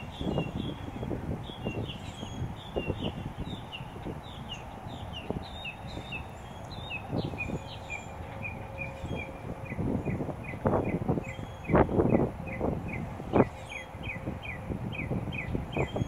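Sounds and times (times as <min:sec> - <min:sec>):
low gusty rumbles: 0:00.0 - 0:16.0.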